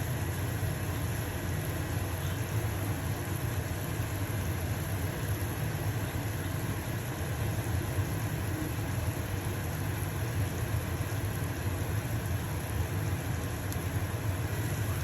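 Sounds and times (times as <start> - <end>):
batter sizzling in a frying pan: 0.0 - 15.0
range hood fan humming: 0.0 - 15.0.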